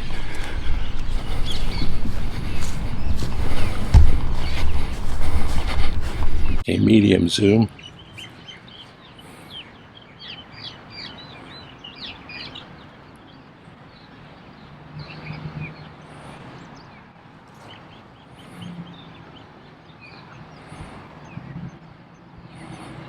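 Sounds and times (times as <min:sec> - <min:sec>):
small birds chirping: 0:00.0 - 0:06.7, 0:07.4 - 0:23.0
outdoor background noise: 0:00.0 - 0:23.0.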